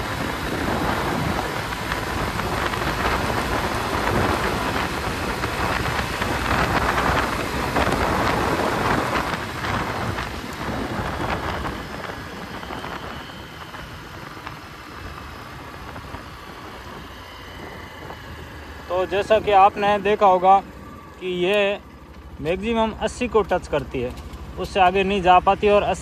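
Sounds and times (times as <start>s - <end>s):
wind buffeting microphone: 0.0s - 22.3s.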